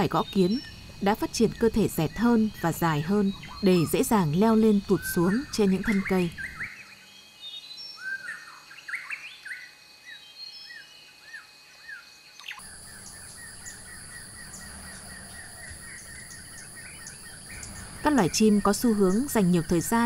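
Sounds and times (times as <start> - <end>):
bird chirping: 0.0 - 9.7, 12.4 - 20.0
high insect drone: 0.0 - 20.0.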